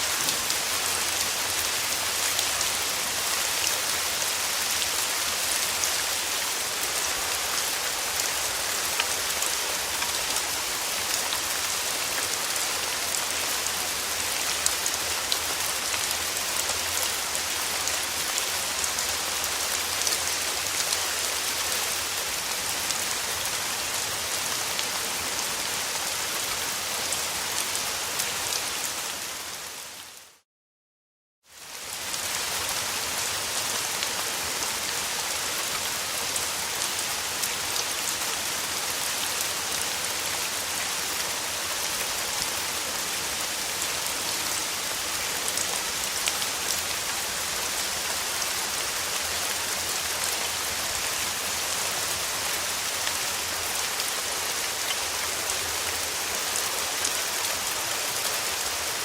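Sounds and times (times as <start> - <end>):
steady rain falling: 0.0 - 30.4, 31.4 - 59.0.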